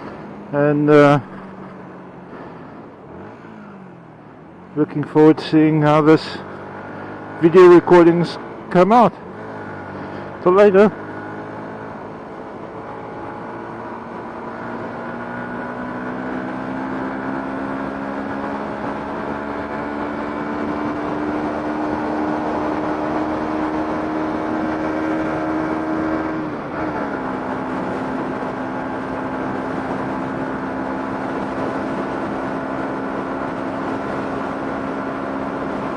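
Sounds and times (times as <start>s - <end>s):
road noise: 0.0s - 35.9s
vehicle engine running: 0.0s - 35.9s.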